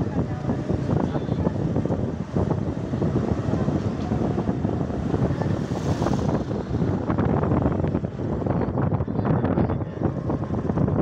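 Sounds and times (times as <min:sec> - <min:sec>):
vehicle engines and tyres rumbling: 0:00.0 - 0:11.0
wind buffeting microphone: 0:00.0 - 0:11.0.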